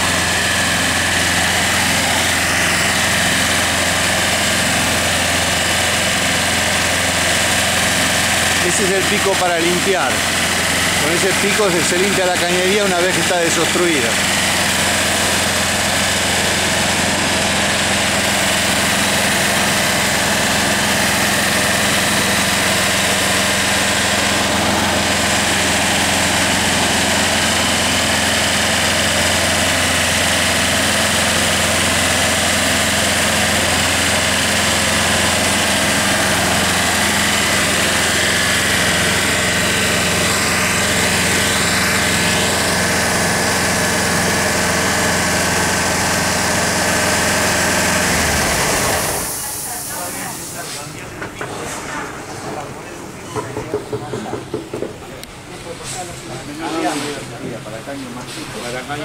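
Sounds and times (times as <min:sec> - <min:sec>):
high-pressure pump engine running: 0:00.0 - 0:59.0.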